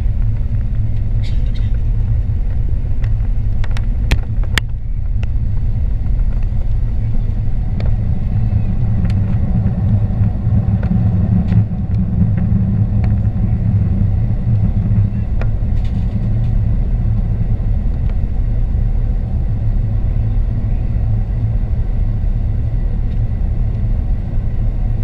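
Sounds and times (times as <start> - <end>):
jet engine low rumble: 0.0 - 25.0.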